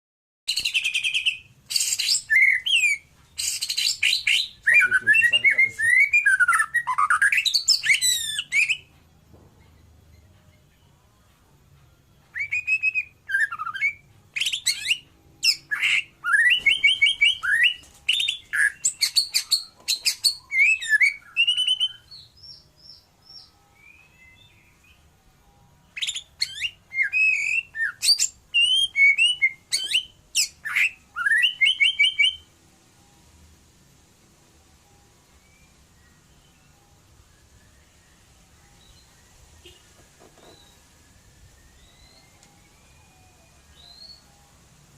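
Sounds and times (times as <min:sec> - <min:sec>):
bird singing whistles and trills: 0:00.5 - 0:09.0, 0:12.2 - 0:32.5, 0:35.3 - 0:44.5.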